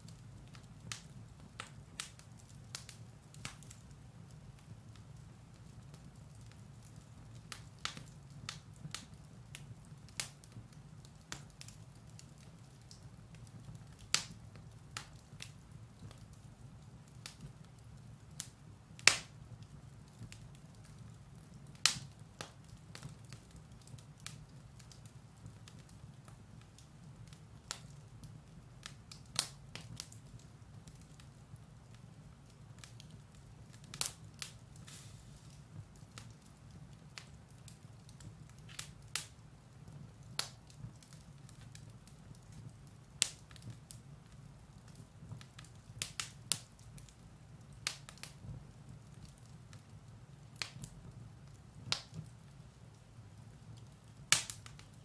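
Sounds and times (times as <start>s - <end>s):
firewood crackling and popping: 0.0s - 55.0s
low fire rumble: 0.0s - 55.0s.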